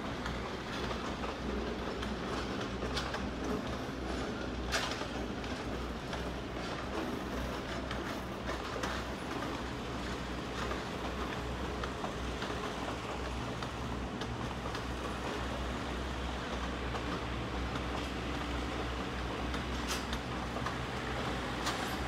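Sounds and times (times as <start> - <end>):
clicks of wheels on track: 0.0 - 22.0
train wheels rumbling on rail: 0.0 - 22.0.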